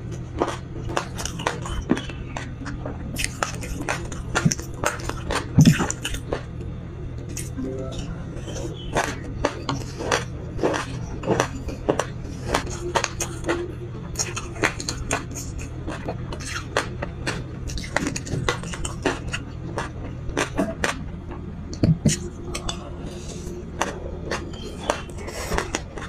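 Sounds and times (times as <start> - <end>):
chewing crunchy seeds: 0.0 - 26.0.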